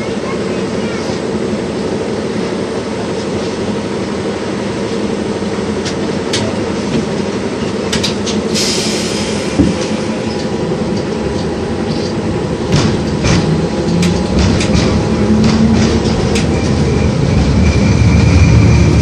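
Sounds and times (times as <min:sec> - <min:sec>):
tram motors and wheels droning: 0:00.0 - 0:19.0.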